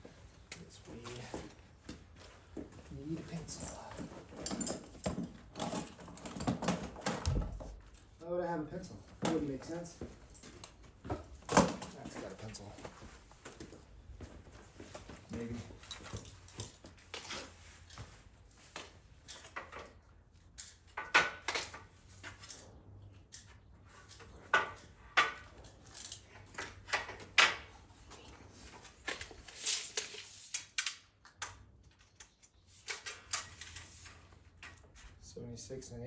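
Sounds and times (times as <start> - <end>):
tools and metal parts clattering: 2.2 - 8.2, 9.1 - 13.1, 14.7 - 31.0, 31.9 - 35.1.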